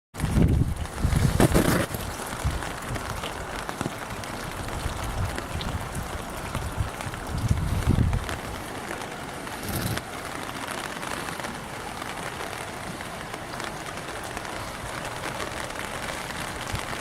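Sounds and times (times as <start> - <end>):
rain on hard surfaces: 0.2 - 17.0.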